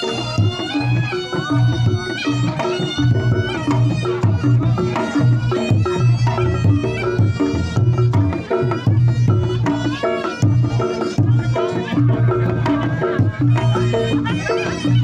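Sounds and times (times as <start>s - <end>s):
drum strokes: 0.0s - 15.0s
pitched percussion tones: 0.0s - 15.0s
shawm playing gliding melody: 0.0s - 15.0s.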